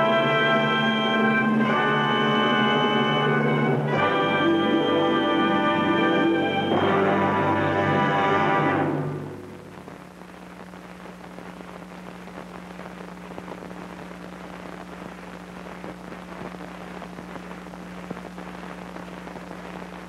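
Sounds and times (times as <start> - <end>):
film soundtrack crackle and pops: 0.0 - 20.0.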